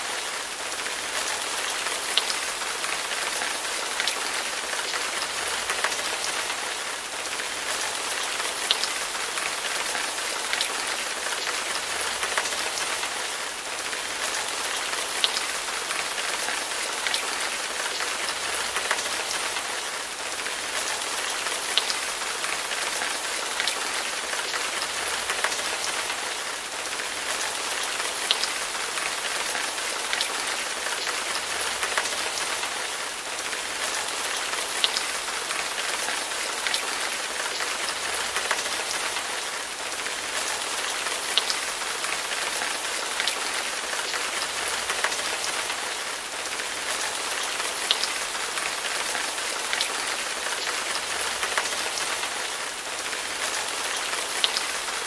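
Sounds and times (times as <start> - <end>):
steady rain hissing: 0.0 - 55.0.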